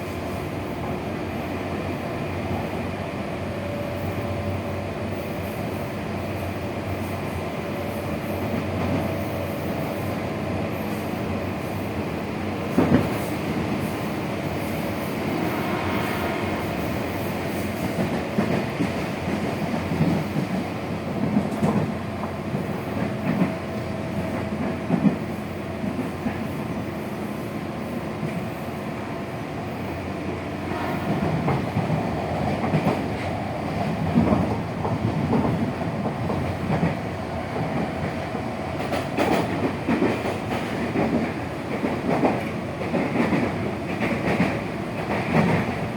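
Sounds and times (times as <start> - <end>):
electric train running on rails: 0.0 - 45.9.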